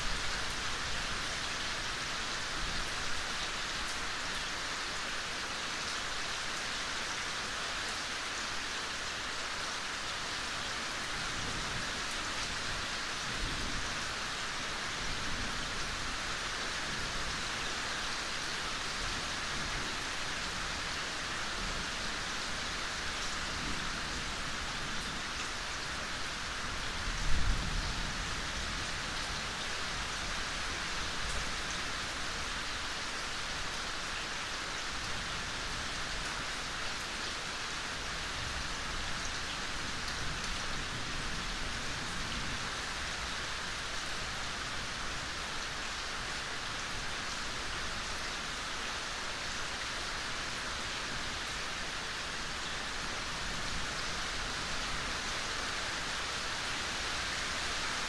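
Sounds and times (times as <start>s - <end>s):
gentle rain on leaves: 0.0s - 58.0s.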